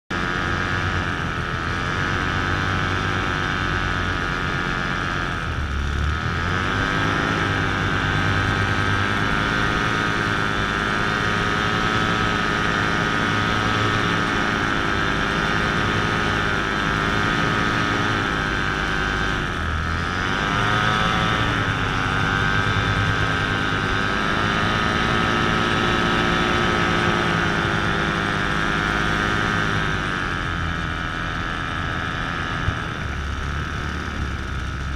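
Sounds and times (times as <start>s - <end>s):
paramotor engine and propeller: 0.0s - 34.9s.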